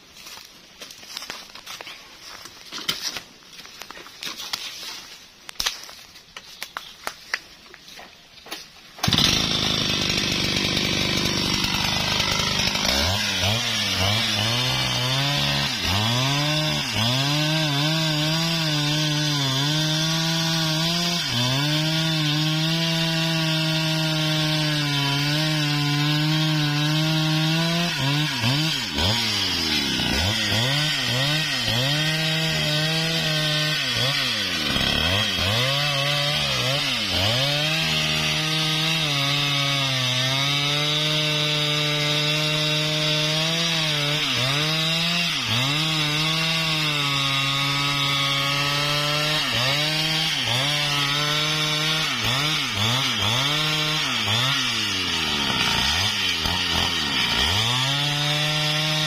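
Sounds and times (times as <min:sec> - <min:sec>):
chainsaw cutting tree trunk: 0:08.4 - 0:59.0.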